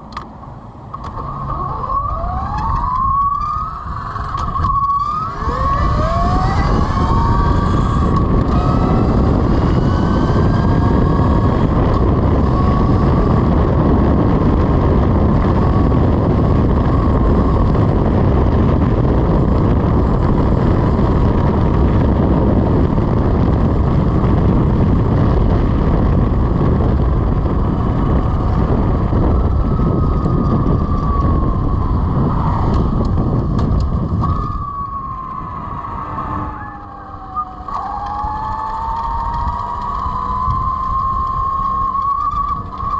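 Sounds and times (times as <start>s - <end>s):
wind noise on microphone: 0.0s - 42.9s
electric motor whine: 0.8s - 42.9s.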